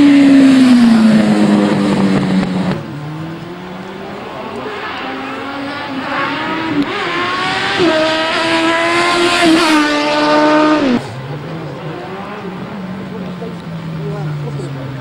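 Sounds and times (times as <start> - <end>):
racing motorbike engine revving: 0.0 - 15.0.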